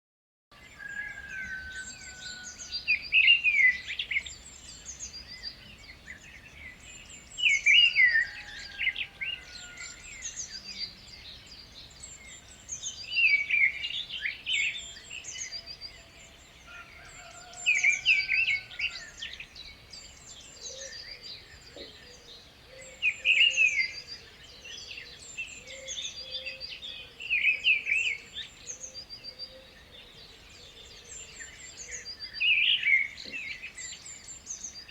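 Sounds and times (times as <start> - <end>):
bird singing rapid song: 0.6 - 34.9.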